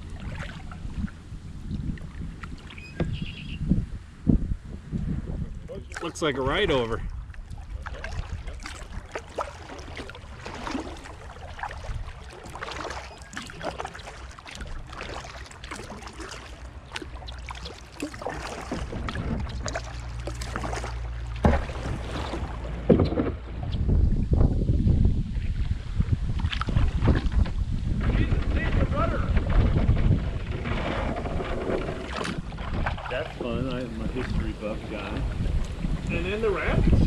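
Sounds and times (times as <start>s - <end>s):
paddle splashing in water: 0.0s - 3.6s, 5.5s - 37.0s
wind buffeting microphone: 0.0s - 13.8s, 18.0s - 20.8s, 21.4s - 37.0s
water lapping against hull: 0.0s - 37.0s.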